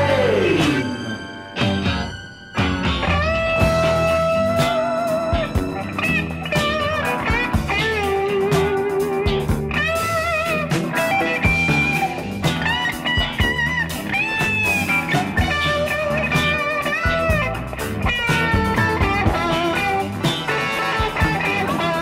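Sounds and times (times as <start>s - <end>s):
blues-rock band music: 0.0s - 22.0s
electric guitar bent notes: 0.0s - 22.0s.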